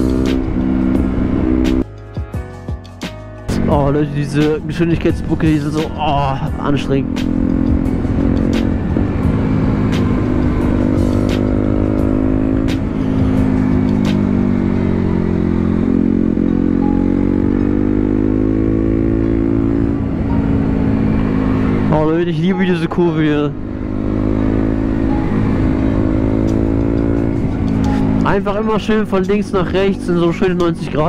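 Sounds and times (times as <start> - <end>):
motorcycle engine revving: 0.0 - 2.0, 3.4 - 31.0.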